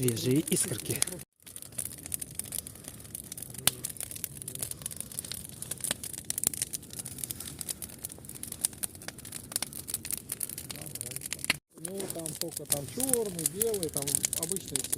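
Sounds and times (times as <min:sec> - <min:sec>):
campfire crackling: 0:00.0 - 0:14.9.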